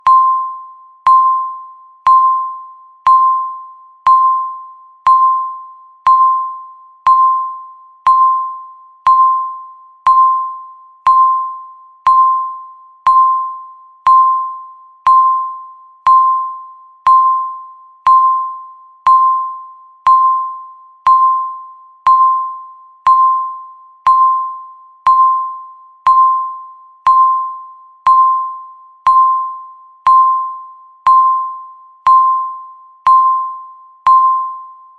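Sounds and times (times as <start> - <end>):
electronic timer beeps: 0.0 - 34.9.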